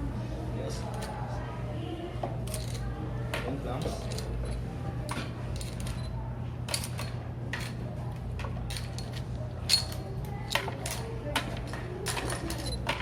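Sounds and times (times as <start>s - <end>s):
steady low hum: 0.0s - 13.0s
utensils and dishes clinking: 2.2s - 13.0s.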